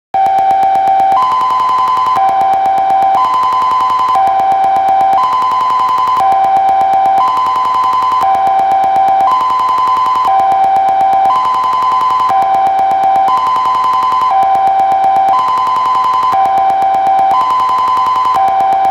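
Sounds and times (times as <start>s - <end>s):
two-tone fire alarm: 0.2s - 18.9s.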